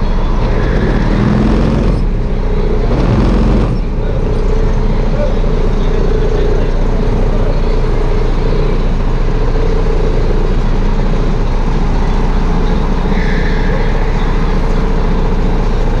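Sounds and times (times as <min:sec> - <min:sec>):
go-kart engine idling: 0:00.0 - 0:16.0.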